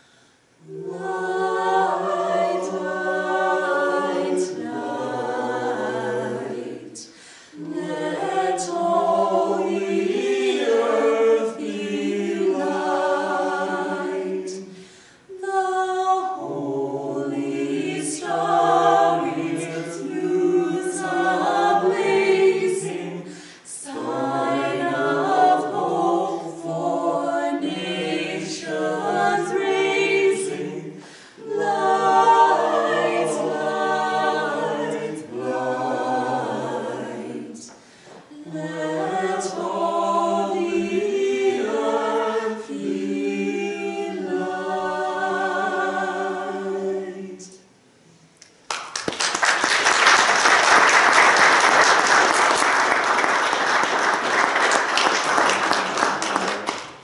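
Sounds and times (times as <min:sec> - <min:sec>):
vocal quartet singing in harmony: 0:00.0 - 0:48.4.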